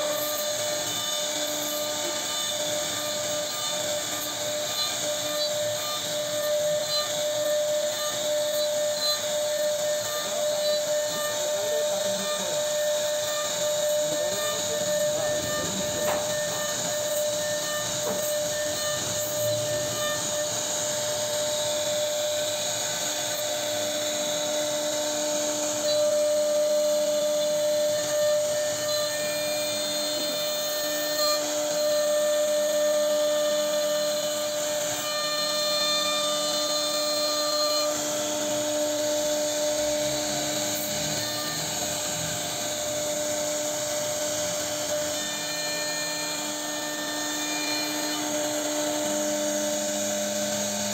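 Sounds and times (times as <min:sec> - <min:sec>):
bit cutting wood: 0:00.0 - 0:50.9
router spindle high whine: 0:00.0 - 0:50.9.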